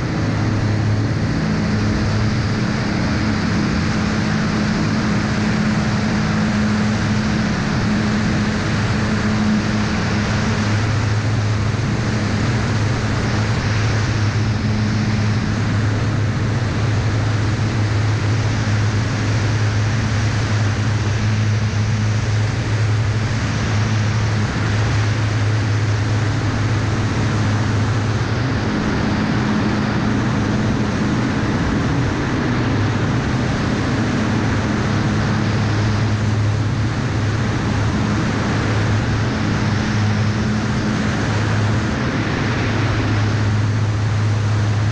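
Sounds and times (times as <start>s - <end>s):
aircraft engine and propeller drone: 0.0s - 44.9s
rushing airflow: 0.0s - 44.9s.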